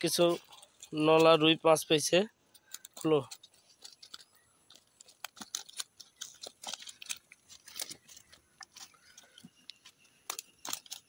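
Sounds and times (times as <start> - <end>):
keepnet clicks and rustles: 0.0 - 11.0.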